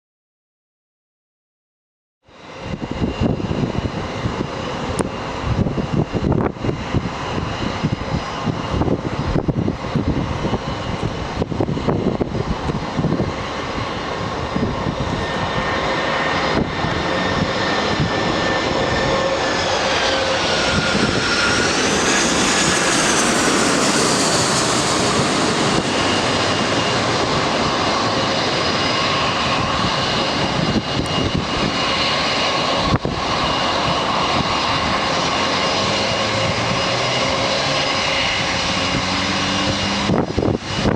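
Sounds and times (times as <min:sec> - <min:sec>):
jet airliner engines roaring: 0:02.2 - 0:40.9.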